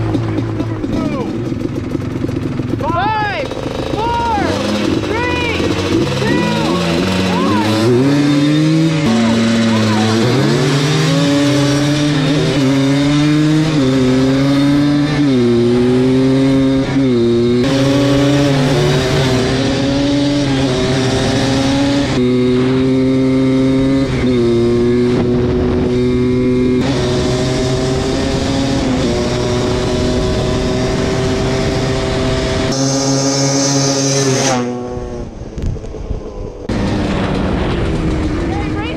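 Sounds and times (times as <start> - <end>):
two-stroke engines at full throttle: 0.0 - 38.9.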